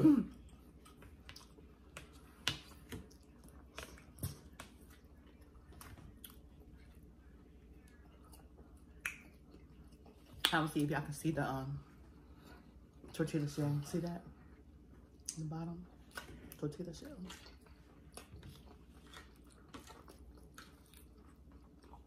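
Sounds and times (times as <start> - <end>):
quiet chewing: 0.3 - 10.6, 14.3 - 22.0.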